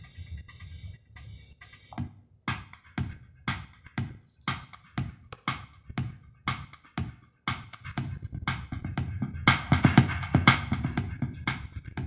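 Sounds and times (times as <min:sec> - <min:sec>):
electronic music on car radio: 0:00.0 - 0:12.0.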